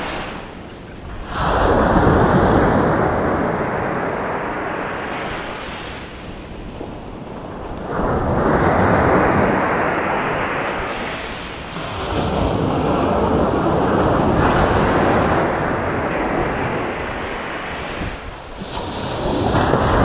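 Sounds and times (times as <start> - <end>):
sea waves crashing on beach: 0.0 - 20.0.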